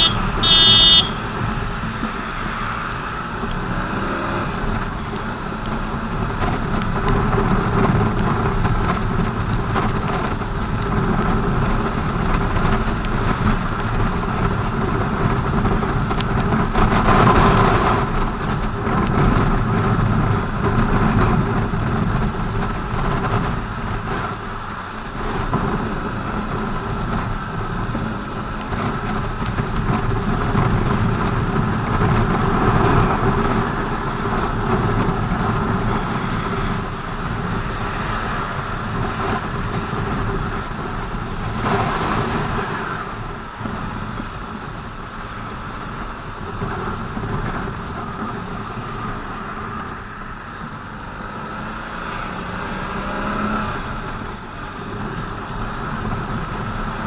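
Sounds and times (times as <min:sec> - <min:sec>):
motorcycle engine: 0:00.0 - 0:57.0
road noise: 0:00.0 - 0:57.0.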